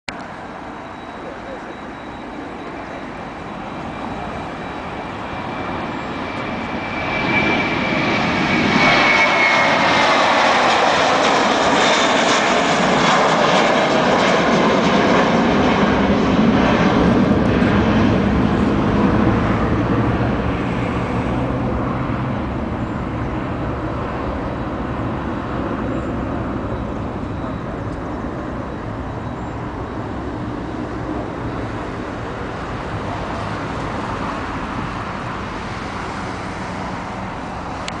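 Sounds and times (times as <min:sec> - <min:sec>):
jet engines at take-off: 0:00.2 - 0:38.0.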